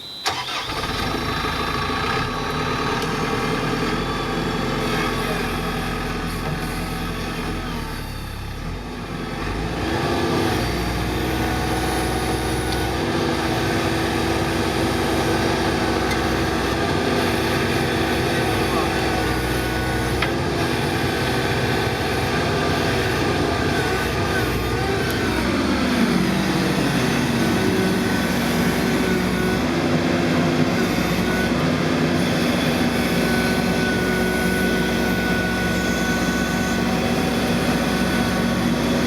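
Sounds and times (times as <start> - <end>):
backhoe diesel engine revving: 0.0 - 39.0.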